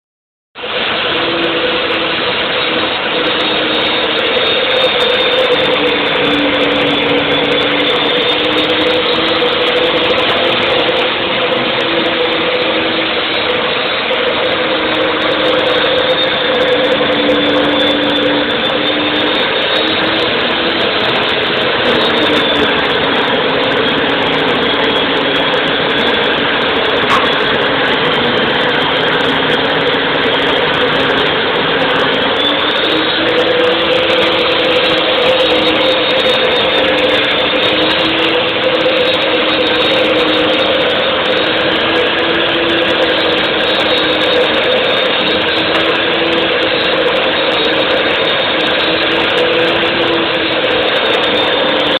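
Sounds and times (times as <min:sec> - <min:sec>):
power saw running: 0:00.6 - 0:52.0.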